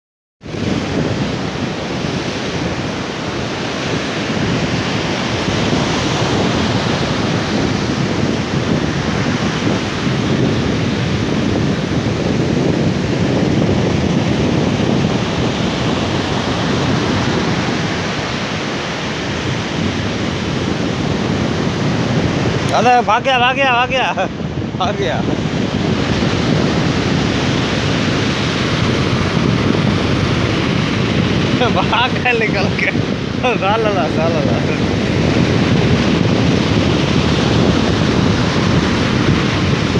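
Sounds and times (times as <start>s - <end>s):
sea surf rushing: 0.4s - 39.9s
wind buffeting microphone: 0.4s - 39.9s.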